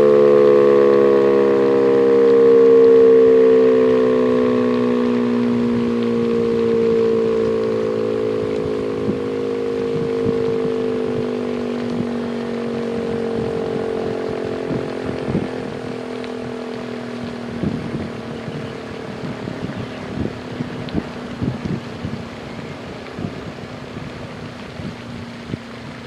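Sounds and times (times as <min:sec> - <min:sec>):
warning siren winding down: 0:00.0 - 0:26.0
wind bumping microphone: 0:02.8 - 0:26.0.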